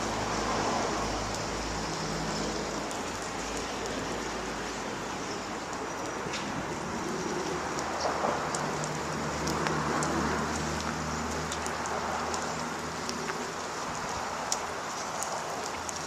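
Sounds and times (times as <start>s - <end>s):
flock of birds chirping: 1.3s - 16.0s.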